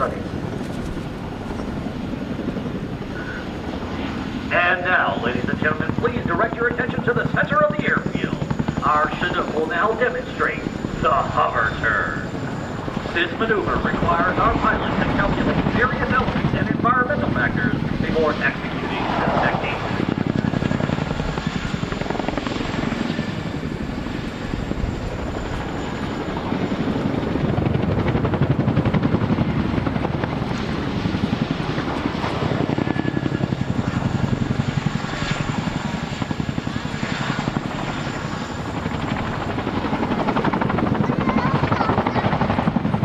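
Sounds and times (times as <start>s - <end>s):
helicopter rotors beating: 0.0s - 43.0s
high turbine whine: 0.0s - 43.0s.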